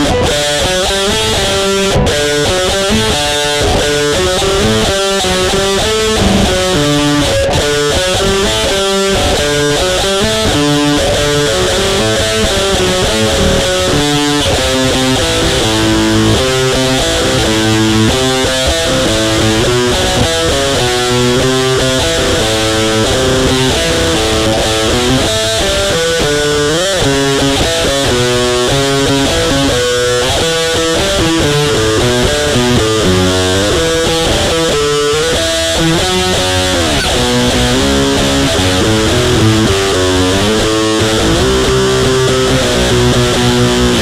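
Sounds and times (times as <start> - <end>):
distorted electric guitar riff: 0.0 - 44.0.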